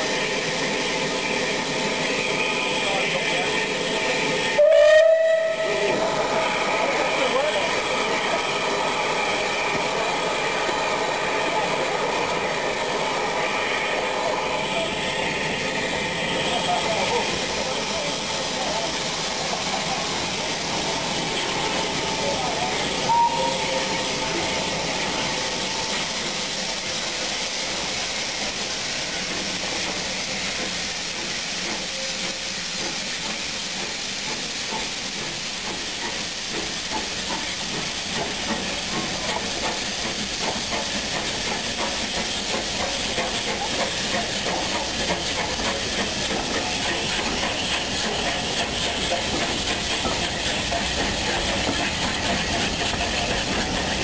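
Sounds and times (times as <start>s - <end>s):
steam locomotive hissing: 0.0s - 54.0s
train clattering on rails: 5.6s - 54.0s.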